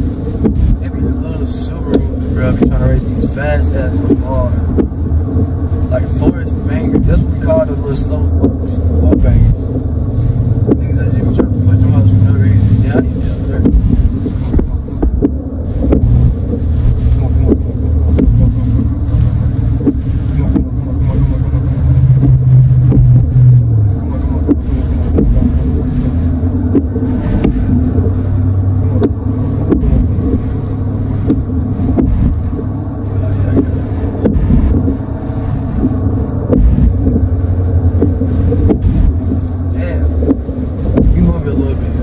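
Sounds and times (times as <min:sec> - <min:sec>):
humming engine tone: 0:00.0 - 0:42.0
truck engine and road rumble: 0:00.0 - 0:42.0.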